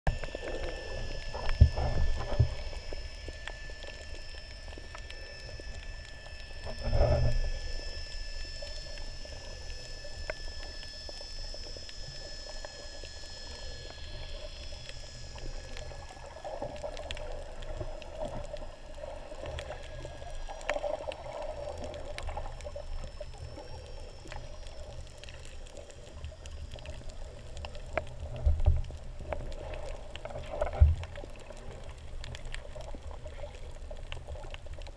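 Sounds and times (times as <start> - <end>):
thin whining tones: 0.1 - 34.9
underwater rumble of moving water: 0.1 - 34.9.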